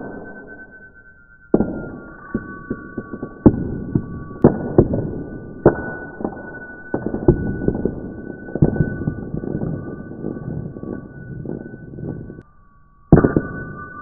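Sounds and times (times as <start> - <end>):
steady high tones: 0.0 - 14.0.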